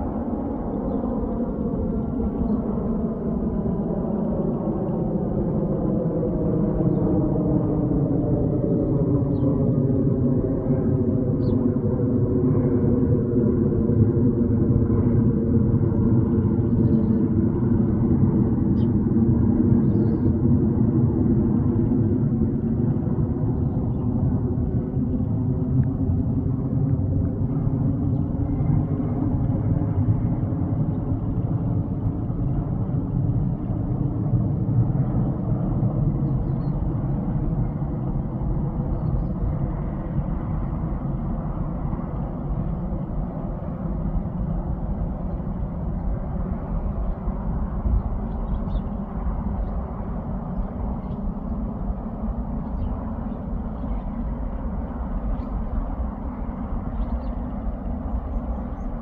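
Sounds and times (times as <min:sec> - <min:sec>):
engine rumble: 0:01.3 - 0:59.0.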